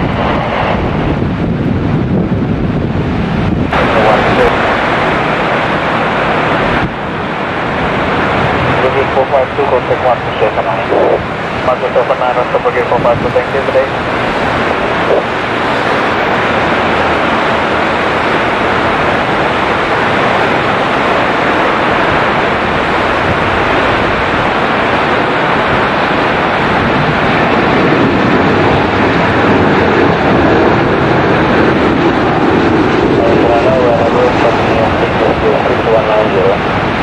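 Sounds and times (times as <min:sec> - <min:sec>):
jet engines rushing: 0:00.0 - 0:37.0.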